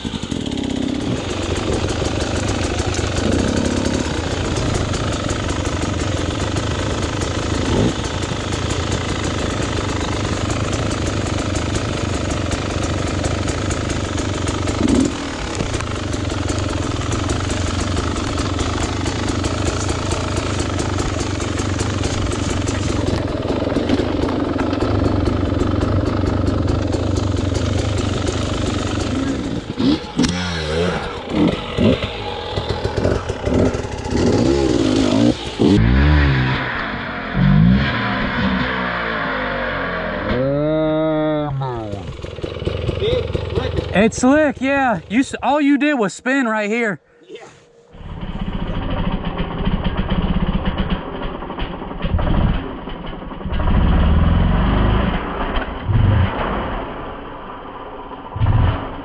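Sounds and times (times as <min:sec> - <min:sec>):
dirt bike engine running: 0:00.0 - 0:47.1, 0:47.8 - 0:59.0.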